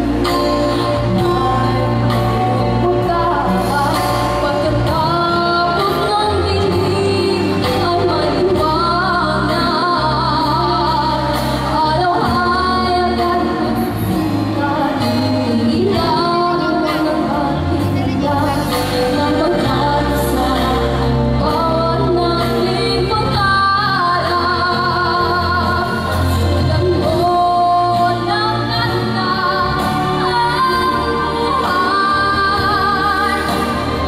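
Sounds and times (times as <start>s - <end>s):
instrumental accompaniment: 0.0s - 34.0s
woman singing into a microphone: 0.0s - 34.0s.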